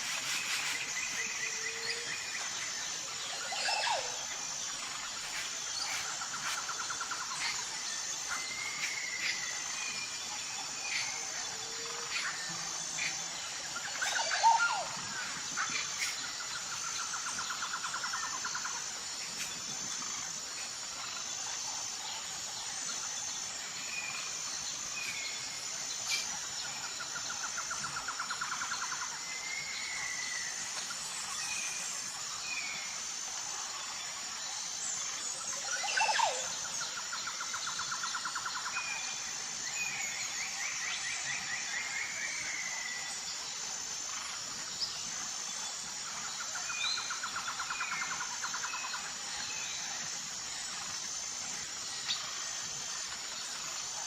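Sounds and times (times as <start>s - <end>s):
pulsing high insect drone: 0.0s - 54.0s.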